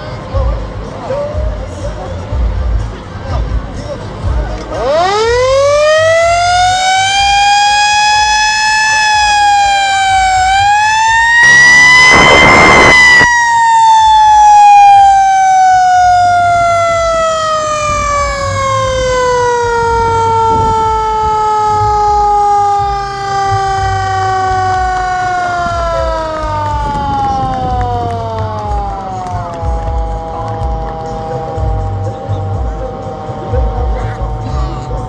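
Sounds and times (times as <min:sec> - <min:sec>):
siren winding down: 0:04.7 - 0:35.0.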